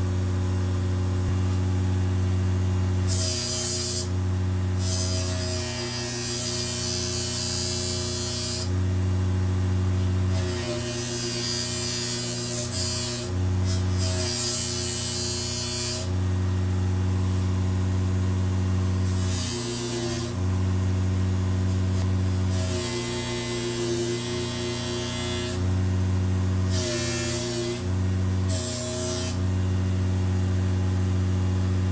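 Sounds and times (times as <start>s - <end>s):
polishing machine motor hum: 0.8s - 31.9s.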